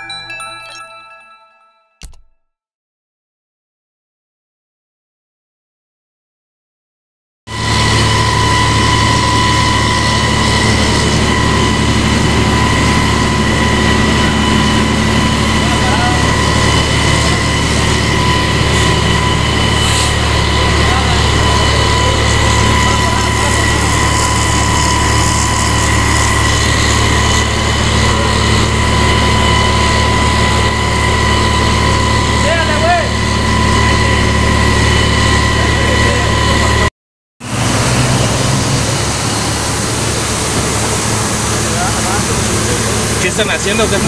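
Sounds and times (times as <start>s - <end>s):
high whine: 7.5s - 44.0s
water pump engine droning: 7.5s - 44.0s.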